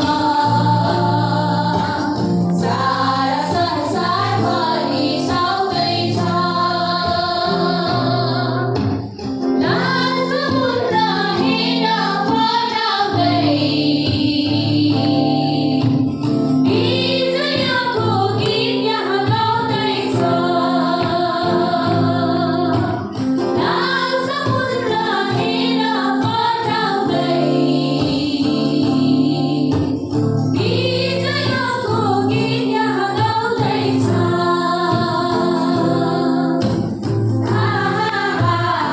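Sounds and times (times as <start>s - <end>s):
women singing worship song: 0.0s - 8.9s, 9.6s - 38.9s
music backing: 0.0s - 38.9s.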